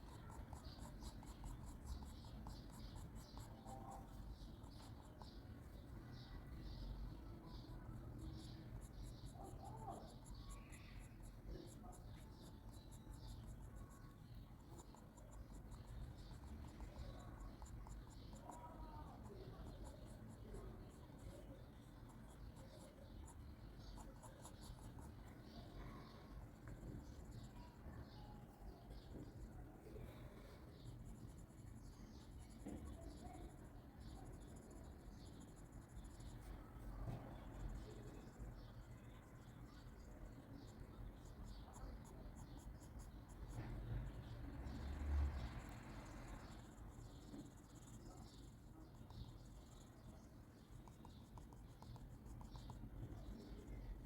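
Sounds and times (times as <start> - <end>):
pencil scratching on paper: 0.0 - 5.9, 7.5 - 44.3, 46.4 - 54.0.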